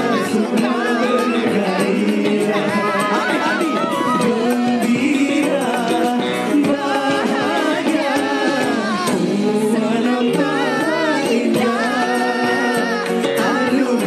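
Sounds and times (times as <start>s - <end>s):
band accompaniment: 0.0s - 14.0s
several people singing pop song: 0.0s - 14.0s.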